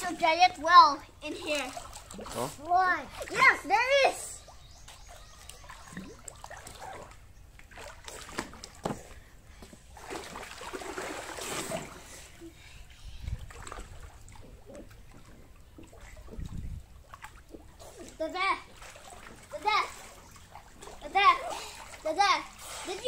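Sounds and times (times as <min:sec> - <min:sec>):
pool water splashing: 0:00.0 - 0:23.0.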